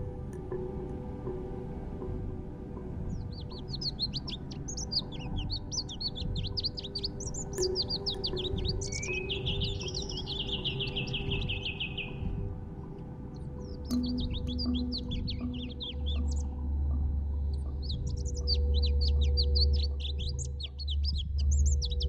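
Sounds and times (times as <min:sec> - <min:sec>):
songbird singing chirping notes: 0:00.0 - 0:22.0.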